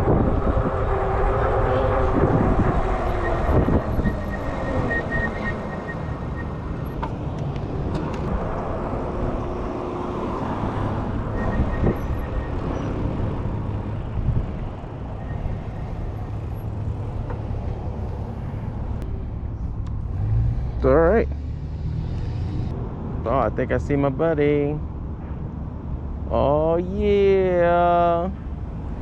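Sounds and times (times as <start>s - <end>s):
car traffic: 0.0s - 29.0s
wind and road noise: 0.0s - 29.0s.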